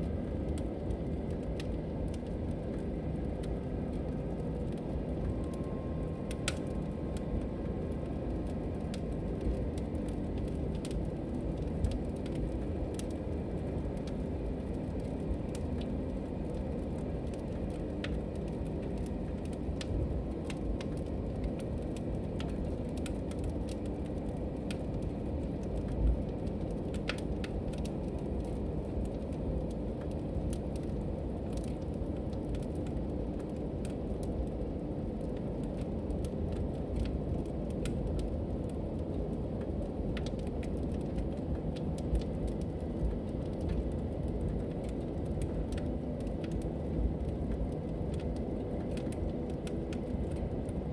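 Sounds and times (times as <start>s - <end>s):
fire crackling and popping: 0.0s - 50.9s
fire rumbling: 0.0s - 50.9s.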